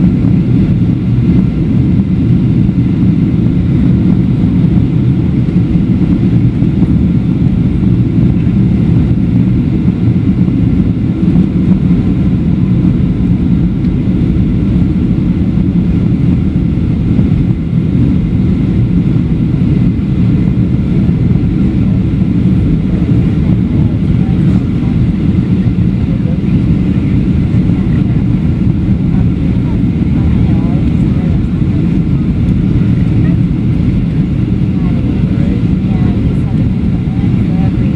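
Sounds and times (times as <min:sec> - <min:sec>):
airflow noise in aircraft cabin: 0:00.0 - 0:37.9
jet engines at approach power: 0:00.0 - 0:37.9.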